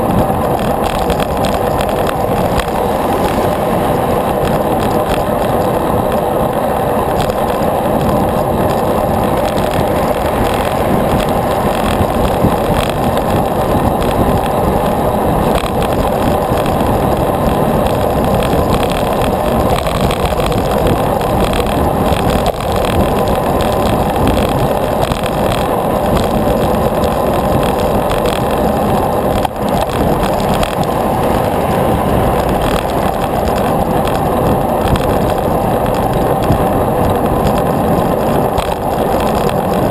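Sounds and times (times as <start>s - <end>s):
bicycle tyres on road: 0.0s - 39.9s
wind over microphone: 0.0s - 39.9s.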